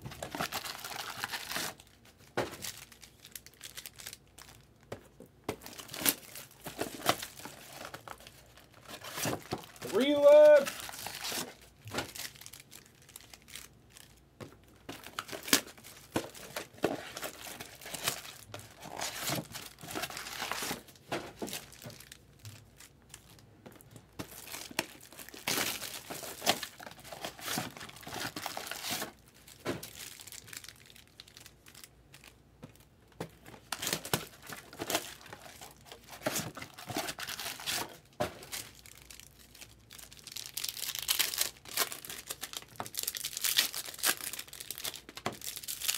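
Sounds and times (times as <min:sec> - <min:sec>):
foil wrappers tearing and crinkling: 0:00.2 - 0:04.7, 0:05.6 - 0:23.4, 0:24.2 - 0:32.4, 0:33.6 - 0:45.9.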